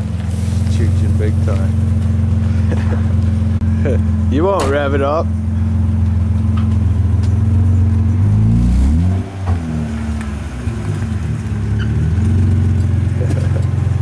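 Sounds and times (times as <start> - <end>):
car engine idling: 0.0 - 14.0
engine revving: 0.7 - 14.0.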